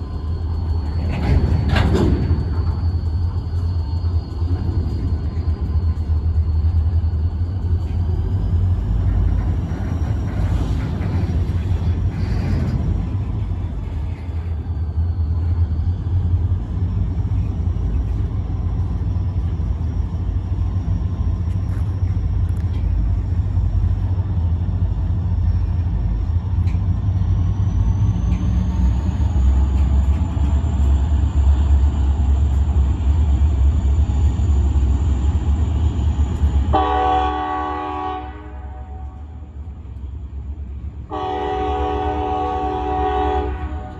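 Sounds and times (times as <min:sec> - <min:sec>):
diesel locomotives rumbling: 0:00.0 - 0:43.9.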